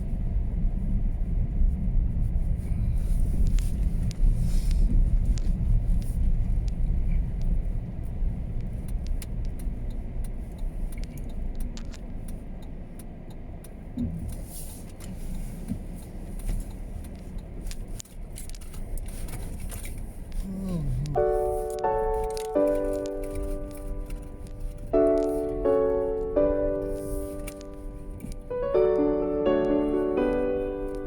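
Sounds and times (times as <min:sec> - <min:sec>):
car road and engine rumble: 0:00.0 - 0:31.0
light clicks and rattles: 0:03.3 - 0:31.0.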